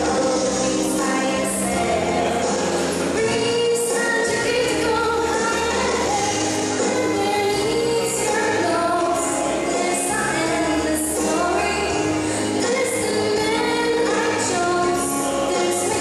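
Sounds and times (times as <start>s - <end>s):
instrumental backing music: 0.0s - 16.0s
girl singing into a microphone: 0.6s - 16.0s.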